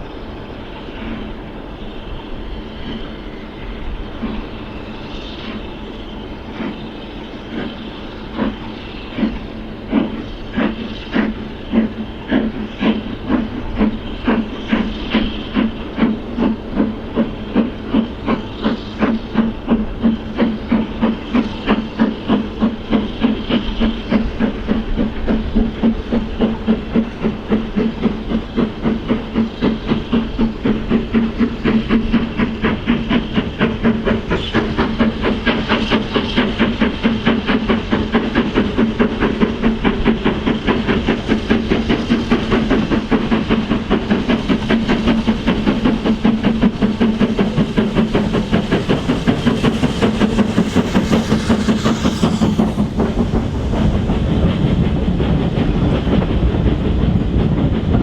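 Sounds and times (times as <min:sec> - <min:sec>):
steam locomotive exhaust beats: 0:00.0 - 0:58.0
train rumbling by: 0:00.0 - 0:58.0.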